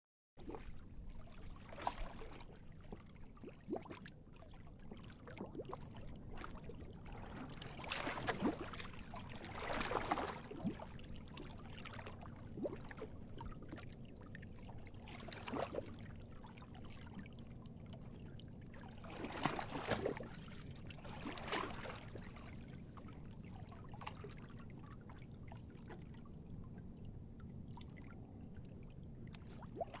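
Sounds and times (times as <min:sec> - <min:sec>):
steady low rumble: 0:00.4 - 0:30.0
water sloshing and splashing: 0:00.4 - 0:30.0.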